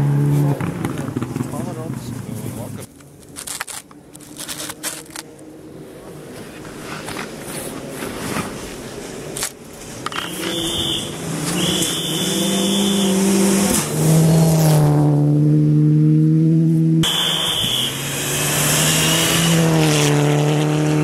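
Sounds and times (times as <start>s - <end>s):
rally car engine at full throttle: 0.0s - 2.7s, 6.0s - 21.0s.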